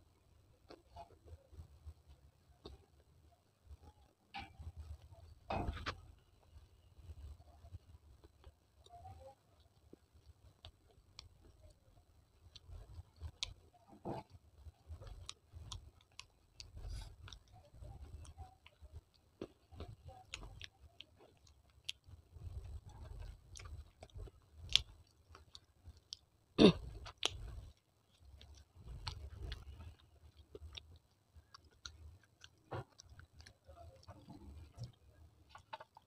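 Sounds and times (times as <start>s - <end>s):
crunchy chewing: 3.7s - 36.0s.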